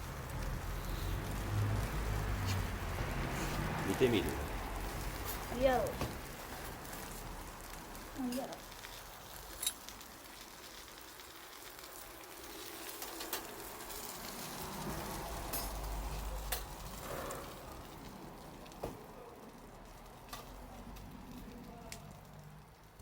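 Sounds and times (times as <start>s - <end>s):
bonfire hissing and sizzling: 0.0s - 23.0s.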